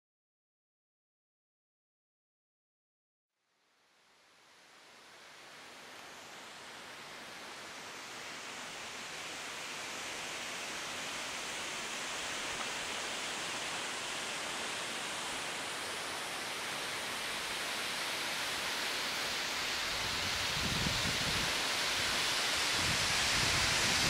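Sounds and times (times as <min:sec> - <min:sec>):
waterfall rushing: 0:04.4 - 0:24.0.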